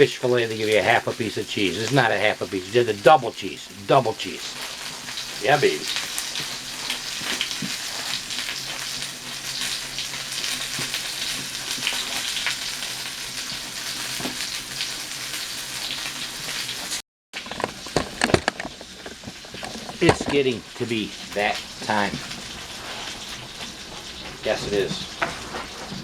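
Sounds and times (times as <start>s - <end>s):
burger patty sizzling: 0.0s - 26.0s.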